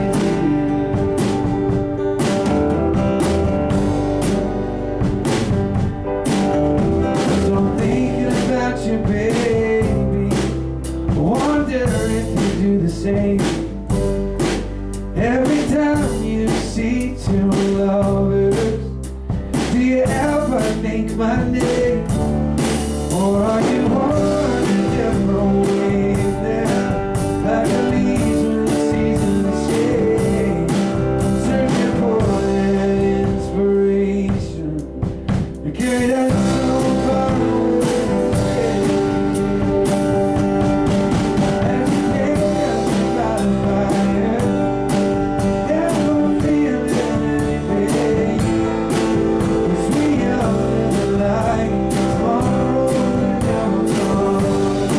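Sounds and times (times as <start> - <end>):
drum kit with cymbals: 0.0 - 54.9
guitar: 0.0 - 54.9
low bass notes: 0.0 - 54.9.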